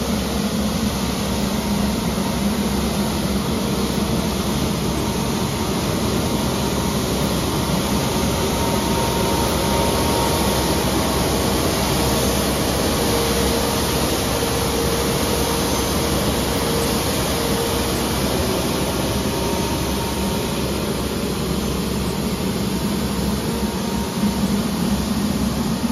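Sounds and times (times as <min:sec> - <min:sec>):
road sweeper brush droning: 0:00.0 - 0:25.9.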